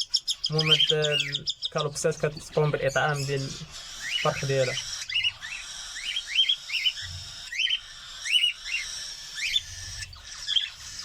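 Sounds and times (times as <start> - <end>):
cockatiels chirping: 0.0 - 11.0.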